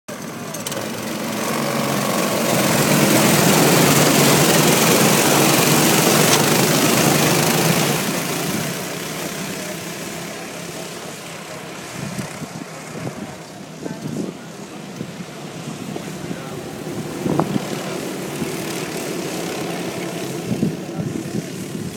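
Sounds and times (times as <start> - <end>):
distant go-kart engines: 0.1 - 21.9
go-kart engine passing by: 0.2 - 13.4, 15.5 - 21.9.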